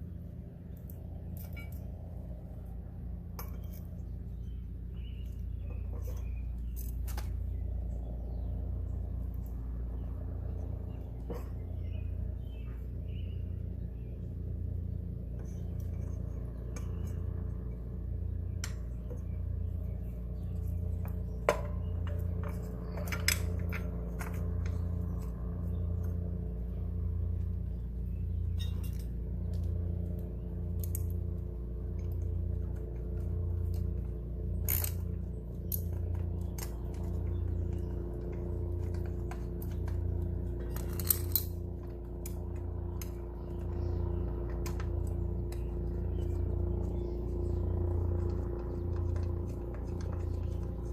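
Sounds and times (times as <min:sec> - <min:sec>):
pulsing low hum: 0:00.0 - 0:50.9.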